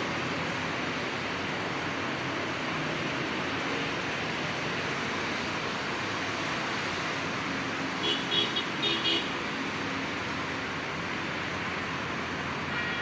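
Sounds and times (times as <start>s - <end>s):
background traffic noise: 0.0s - 13.0s.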